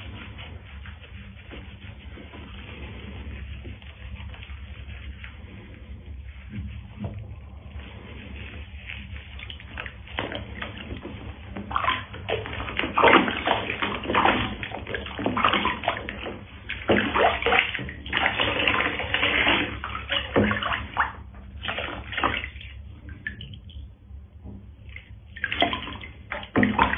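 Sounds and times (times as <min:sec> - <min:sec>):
water poured from scoop: 0:00.0 - 0:23.8
water splashing in plastic tub: 0:00.0 - 0:26.9.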